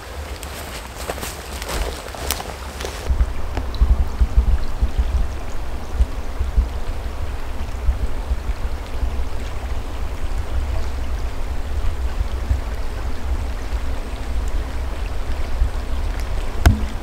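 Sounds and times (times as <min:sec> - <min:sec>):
stream rushing: 0:00.0 - 0:17.0
wind buffeting microphone: 0:00.0 - 0:17.0.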